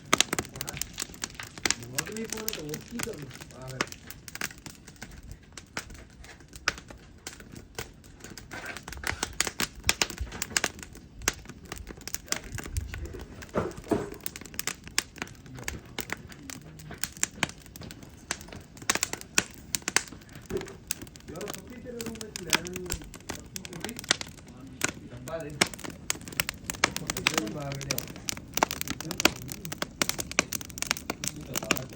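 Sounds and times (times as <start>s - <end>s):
crackling and crinkling clicks: 0.0s - 31.9s.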